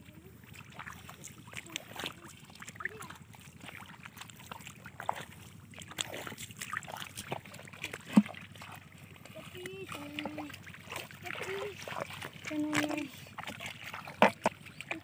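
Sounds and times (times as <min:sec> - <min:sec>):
footsteps splashing through muddy water: 0:00.0 - 0:15.0.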